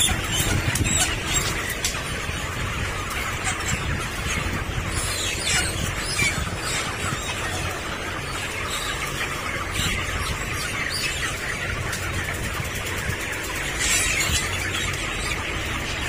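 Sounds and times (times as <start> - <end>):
chickens squawking: 0.0 - 16.0.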